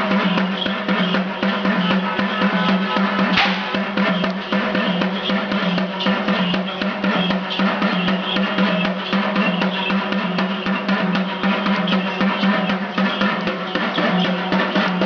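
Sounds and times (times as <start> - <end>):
dhol drums fast rhythm: 0.0 - 15.0.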